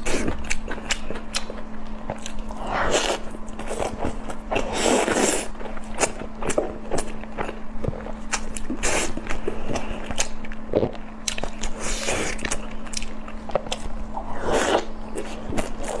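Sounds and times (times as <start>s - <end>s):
crunchy food chewing: 0.0s - 16.0s
faint steady hum: 0.0s - 16.0s.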